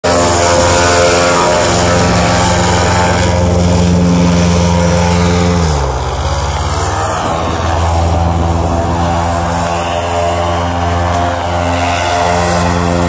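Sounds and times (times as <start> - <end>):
airboat engine droning: 0.0 - 13.0.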